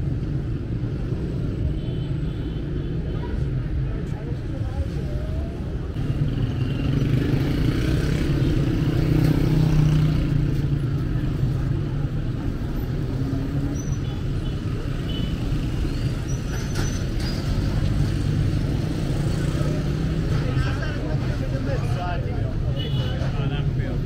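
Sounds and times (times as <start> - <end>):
passing cars and motorbikes: 0.0 - 24.0.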